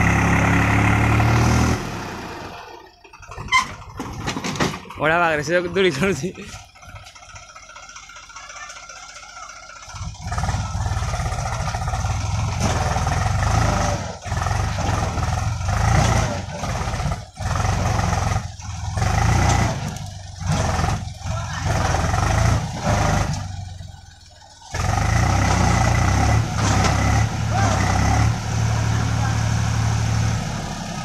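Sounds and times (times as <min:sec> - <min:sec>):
diesel tractor engine under load: 0:00.0 - 0:31.0.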